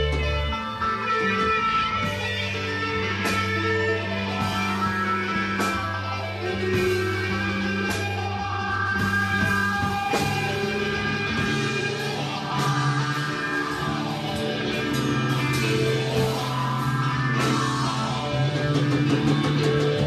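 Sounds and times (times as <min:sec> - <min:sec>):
bass notes: 0:00.0 - 0:20.0
drum and cymbal hits: 0:00.0 - 0:20.0
electric guitar: 0:00.0 - 0:20.0.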